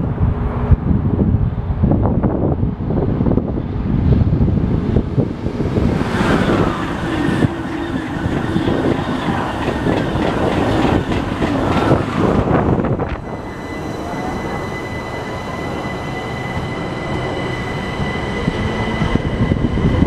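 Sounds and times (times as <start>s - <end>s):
high-speed train passing: 0.0s - 20.0s
wind buffeting microphone: 0.0s - 20.0s.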